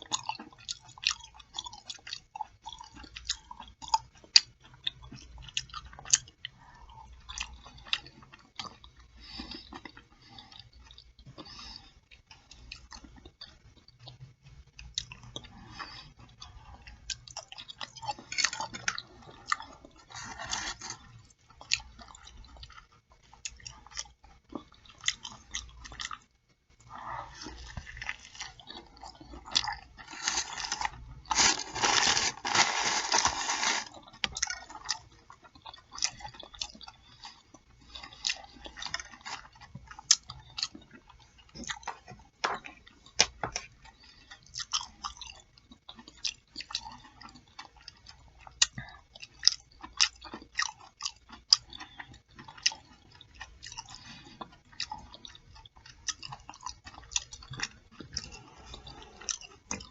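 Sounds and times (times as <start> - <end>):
chewing and lip smacking: 0.0 - 31.4, 33.9 - 59.9.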